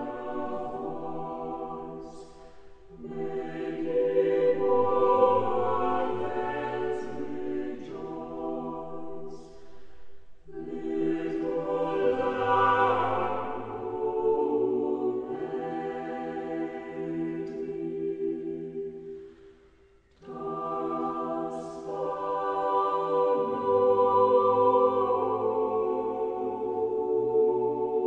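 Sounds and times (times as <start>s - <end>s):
choir singing sacred music: 0.0s - 28.0s.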